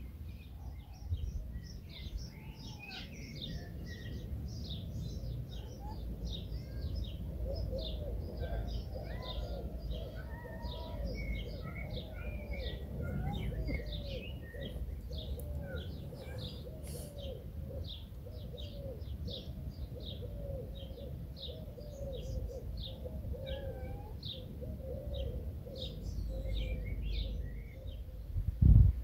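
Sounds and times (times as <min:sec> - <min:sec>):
birds chirping: 0:00.0 - 0:28.3
lower bird call: 0:05.1 - 0:28.8.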